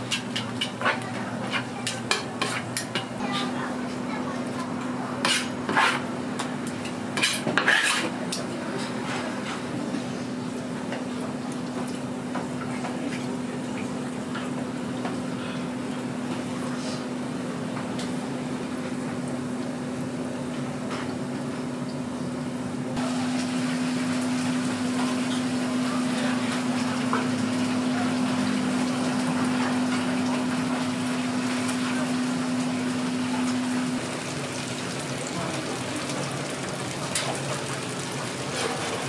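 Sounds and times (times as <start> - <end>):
oil bubbling and sizzling: 0.0 - 39.0.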